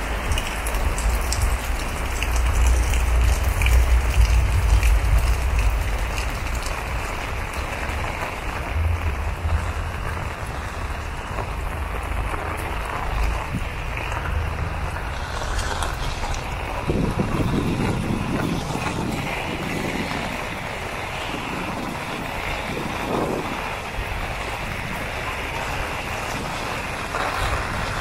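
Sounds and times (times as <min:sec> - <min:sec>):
heavy rain on paving: 0:00.0 - 0:28.0
wind rumble on microphone: 0:00.0 - 0:28.0.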